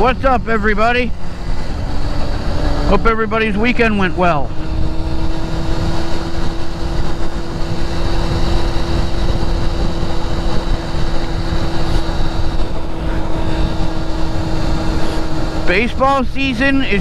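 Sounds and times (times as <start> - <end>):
engine hum: 0.0 - 17.0
road and wind noise: 0.0 - 17.0.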